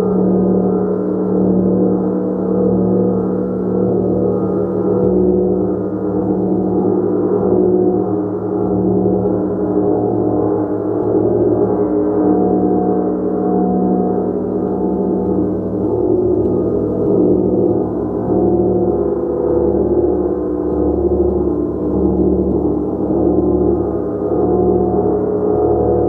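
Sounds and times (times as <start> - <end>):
gong played continuously: 0.0 - 26.0.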